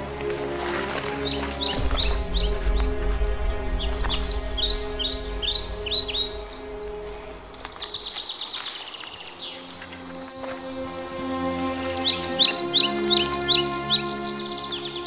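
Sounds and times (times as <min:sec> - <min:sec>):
birds chirping: 0:00.0 - 0:15.0
soft held music chords: 0:00.0 - 0:15.0.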